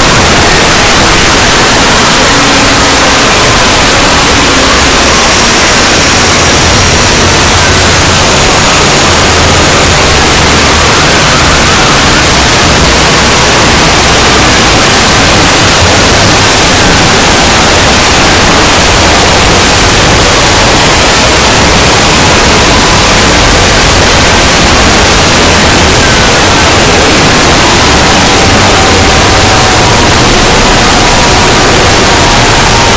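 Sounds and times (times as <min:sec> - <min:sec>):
loud distorted static noise: 0:00.0 - 0:32.9.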